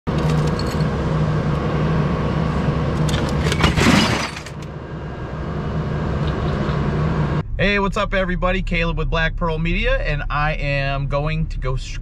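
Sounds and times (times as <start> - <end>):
vehicle engine humming: 0.1 - 12.0.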